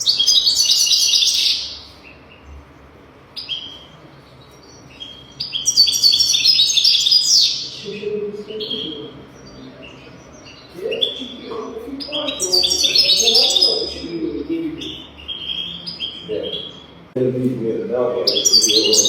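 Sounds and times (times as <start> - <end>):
goldfinch twittering song: 0.0 - 2.5, 3.4 - 16.9, 18.2 - 19.0.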